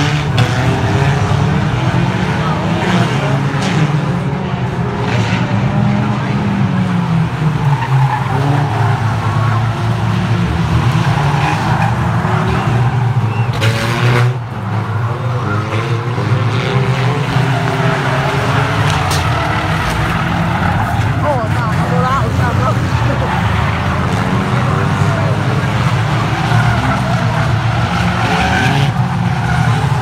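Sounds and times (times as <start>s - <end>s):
race car engines revving: 0.0s - 30.0s
tyres skidding: 0.0s - 30.0s.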